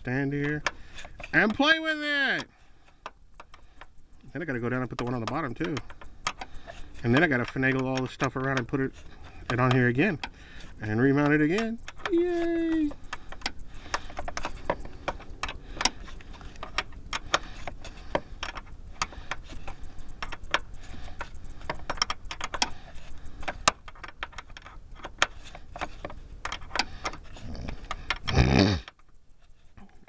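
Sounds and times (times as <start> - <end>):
wrench clicking against nut: 2.4 - 29.2.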